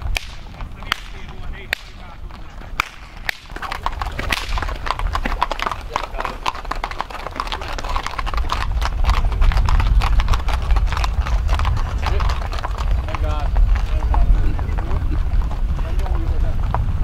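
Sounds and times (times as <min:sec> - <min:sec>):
horse hooves clip-clopping on asphalt: 0:00.0 - 0:17.0.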